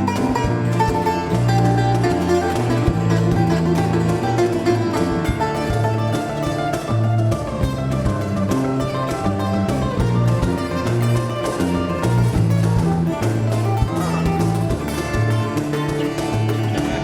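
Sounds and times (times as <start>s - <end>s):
hand drum strokes: 0.0s - 17.0s
low bass notes: 0.0s - 17.0s
plucked guitar: 0.0s - 17.0s.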